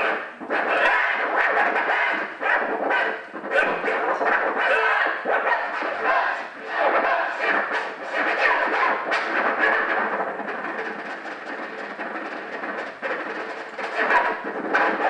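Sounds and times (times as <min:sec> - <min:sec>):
live ensemble playing noisy music: 0:00.0 - 0:15.0.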